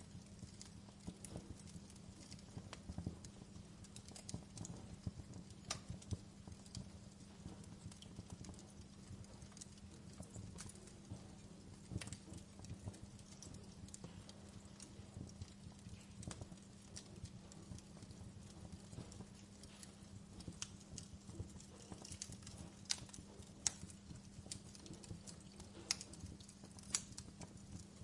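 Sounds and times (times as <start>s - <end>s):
low steady hum: 0.0s - 28.0s
wood fire crackling and popping: 0.0s - 28.0s.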